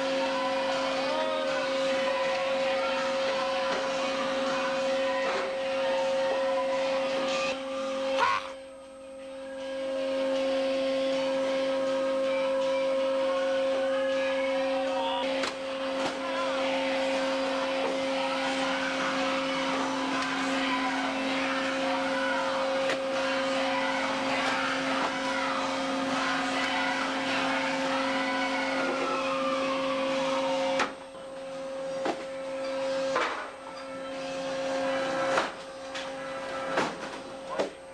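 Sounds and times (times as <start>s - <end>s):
machinery drone: 0.0s - 37.9s.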